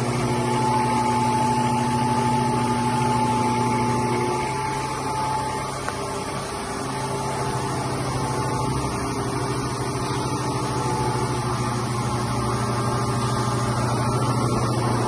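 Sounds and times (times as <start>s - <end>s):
milling machine motor hum: 0.0s - 15.0s.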